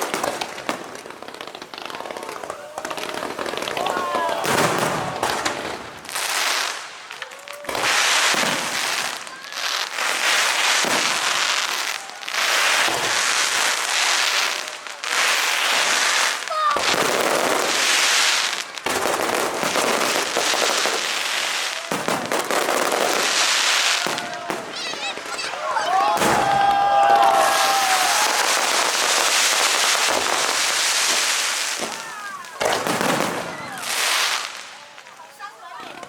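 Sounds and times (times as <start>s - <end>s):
fireworks crackling bursts: 0.0s - 36.0s.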